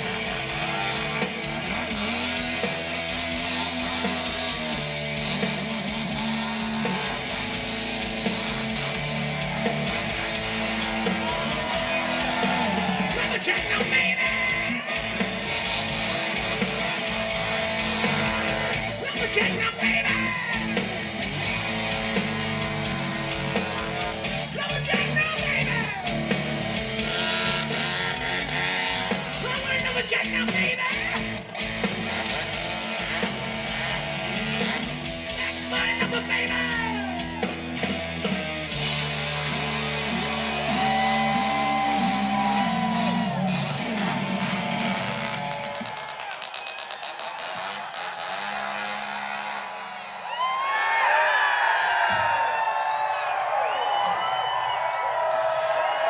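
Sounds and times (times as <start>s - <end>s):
rock band playing: 0.0s - 48.2s
electric guitar with bent notes: 0.0s - 51.3s.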